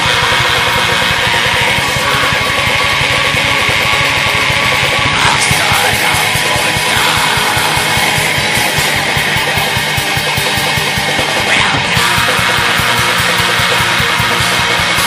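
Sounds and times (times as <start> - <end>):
distorted electric guitars: 0.0 - 15.0
fast drumming: 0.0 - 15.0.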